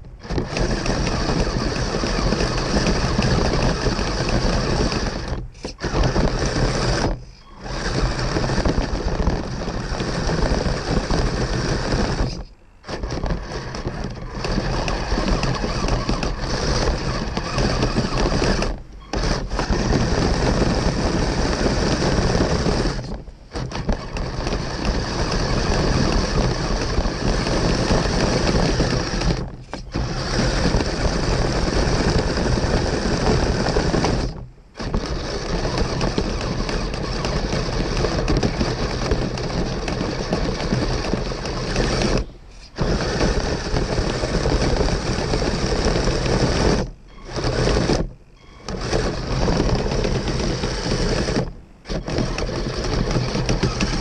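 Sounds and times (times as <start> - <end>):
electric drive whirring: 0.0 - 54.0
gears and tracks clattering: 0.0 - 54.0.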